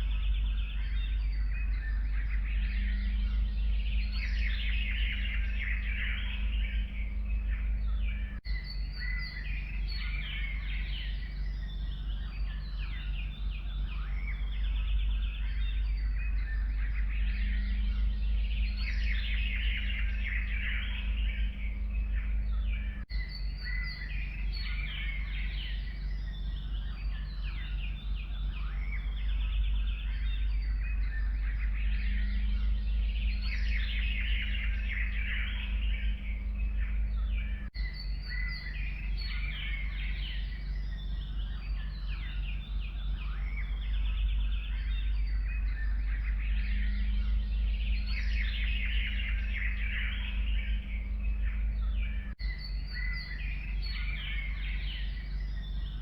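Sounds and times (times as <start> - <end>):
low rumble: 0.0 - 56.0
songbirds chirping and singing: 0.0 - 56.0.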